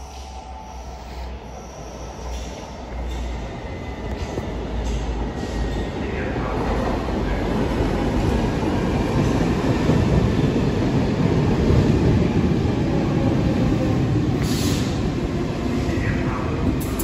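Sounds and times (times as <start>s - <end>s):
metro train rumbling: 0.0s - 17.0s.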